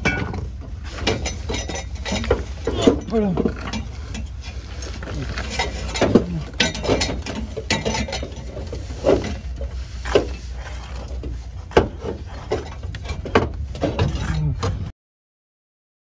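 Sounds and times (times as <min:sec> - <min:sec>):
tools and metal parts clattering: 0:00.0 - 0:14.9.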